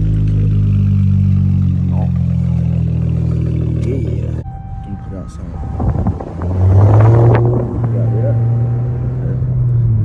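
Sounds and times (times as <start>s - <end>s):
car engine idling loud: 0.0s - 10.0s.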